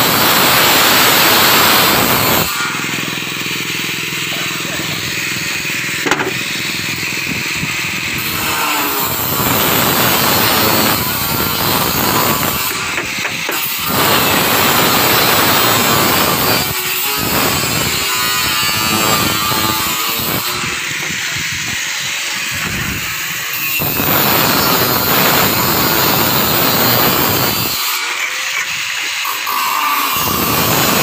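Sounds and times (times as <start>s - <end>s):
electric power tool on steel sheets: 0.0s - 31.0s.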